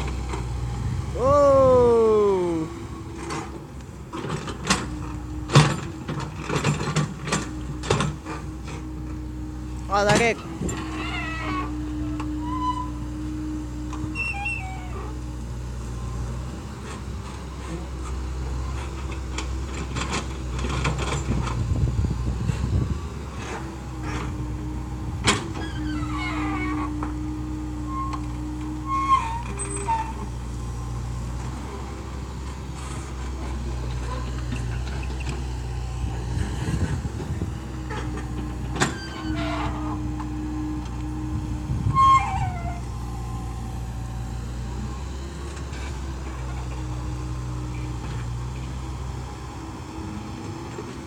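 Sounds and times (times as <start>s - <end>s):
excavator engine running: 0.0s - 51.0s.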